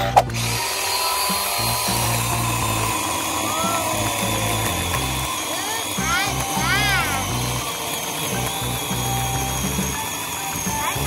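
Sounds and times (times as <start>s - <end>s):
background music: 0.0s - 11.0s
electronic toy chainsaw noise: 0.0s - 11.0s.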